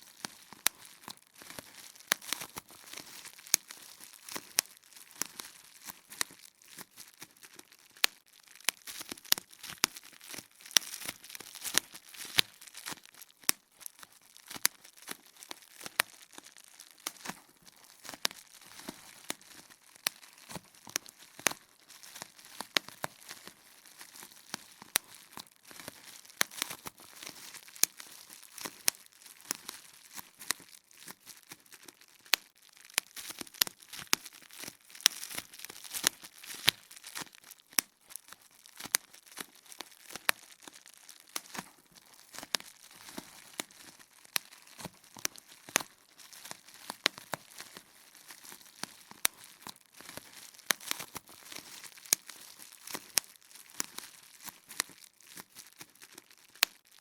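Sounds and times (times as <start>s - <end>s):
bubble wrap popping: 0.0s - 57.0s
plastic sheet crinkling: 0.0s - 57.0s.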